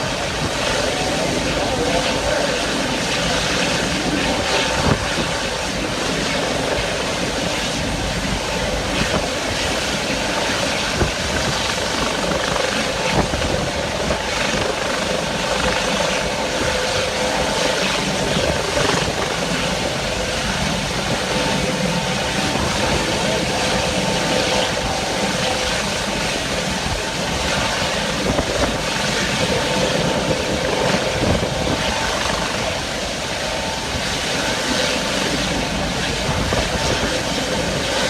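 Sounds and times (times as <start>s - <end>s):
helicopter rotor and engine: 0.0s - 38.0s
strong wind: 0.0s - 38.0s.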